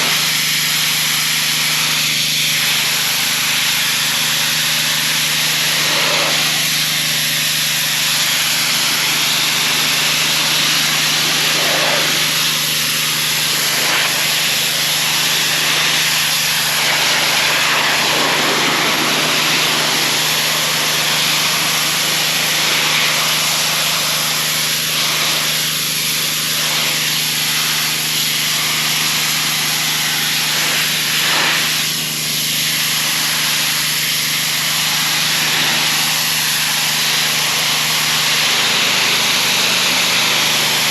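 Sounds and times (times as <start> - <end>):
high-pressure spray hissing: 0.0 - 40.9
small engine humming: 0.0 - 40.9.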